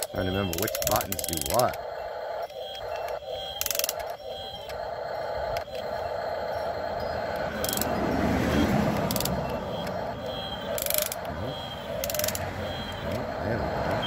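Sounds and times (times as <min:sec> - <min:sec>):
high-pitched buzzes: 0:00.0 - 0:14.0
small electric motors whining: 0:00.0 - 0:14.0.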